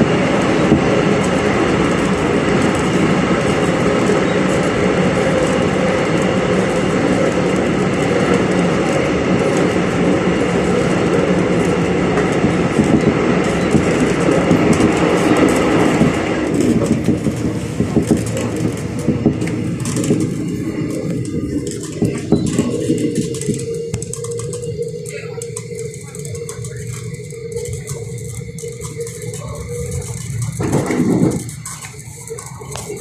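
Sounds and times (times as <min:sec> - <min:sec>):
rail noise: 0:00.0 - 0:33.0
traction motors humming: 0:00.0 - 0:33.0.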